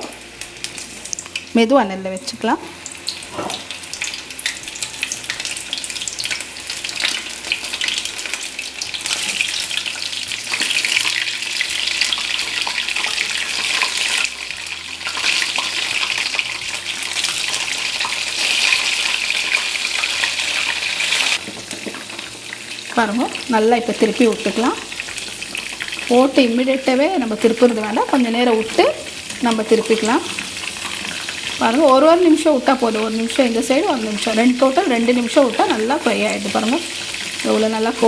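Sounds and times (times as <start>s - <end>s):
food deep-frying in oil: 0.0s - 38.0s.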